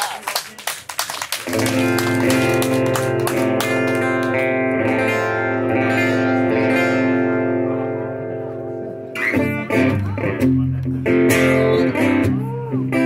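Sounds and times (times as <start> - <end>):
acoustic guitar strumming: 1.5 - 13.0.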